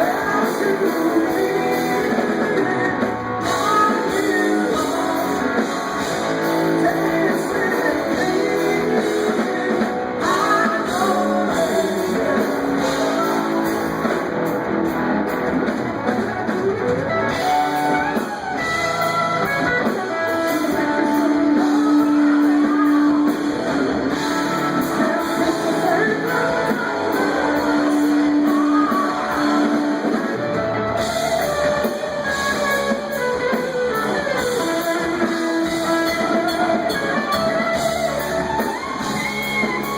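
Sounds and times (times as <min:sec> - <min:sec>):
electric guitar bending notes: 0:00.0 - 0:39.9
live rock band playing: 0:00.0 - 0:39.9.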